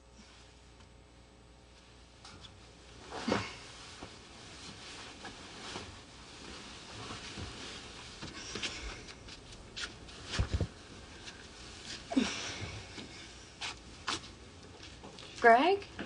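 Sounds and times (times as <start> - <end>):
bedclothes rustling: 1.8 - 15.7.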